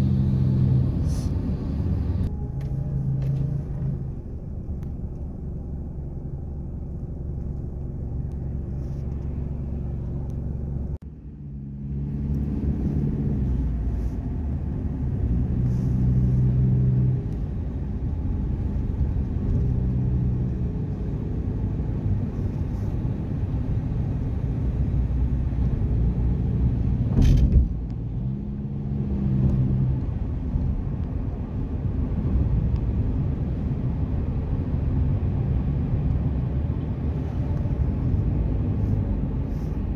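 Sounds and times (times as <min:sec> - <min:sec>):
car interior road and engine rumble: 0:00.0 - 0:39.9.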